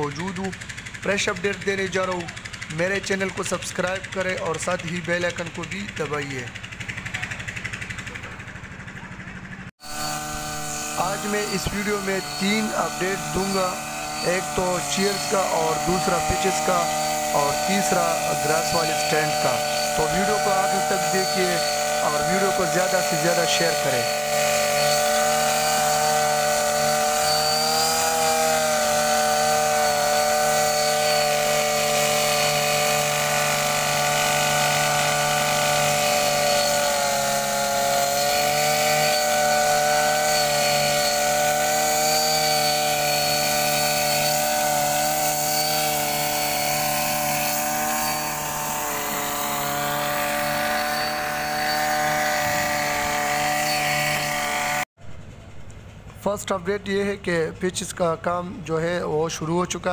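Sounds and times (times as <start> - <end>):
brush cutter engine whine: 0.0 - 55.4.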